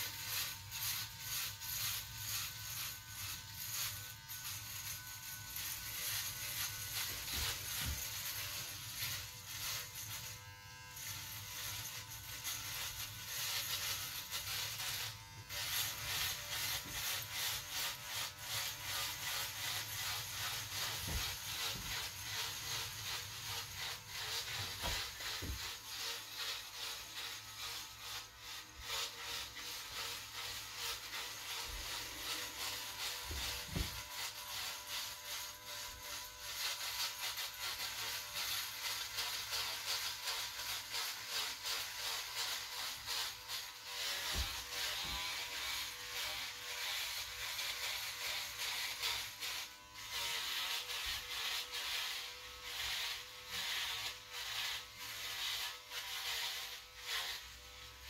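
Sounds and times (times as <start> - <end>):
electric hair trimmer buzzing: 0.0 - 58.0.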